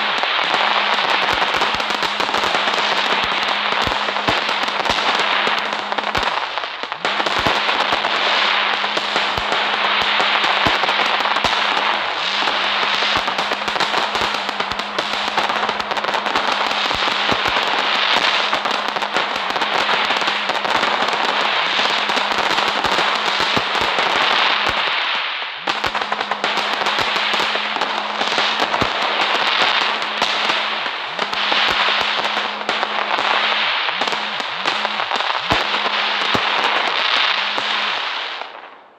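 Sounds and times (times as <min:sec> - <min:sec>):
steady low hum: 0:00.0 - 0:38.2
firecrackers popping: 0:00.0 - 0:38.9.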